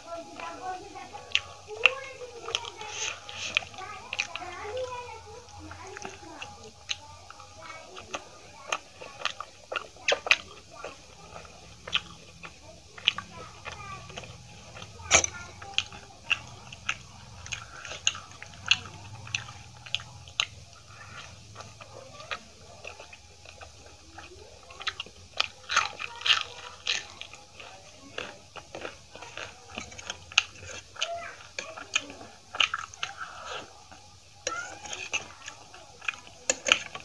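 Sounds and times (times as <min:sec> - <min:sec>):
chewing flatbread: 0:00.0 - 0:37.0.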